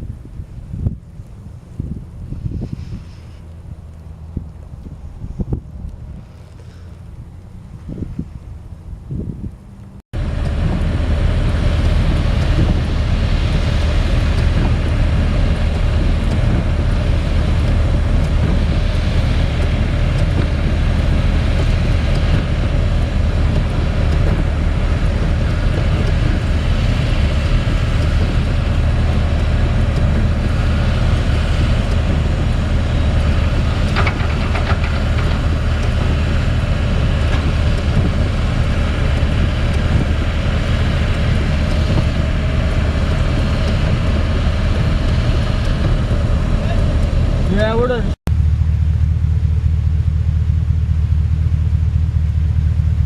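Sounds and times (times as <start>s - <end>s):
low mechanical rumble: 0.0s - 53.0s.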